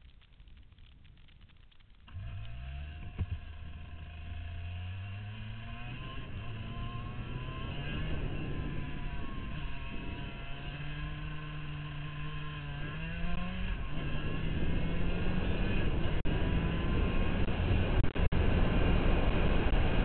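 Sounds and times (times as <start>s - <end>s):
kart engine revving: 2.1s - 20.0s.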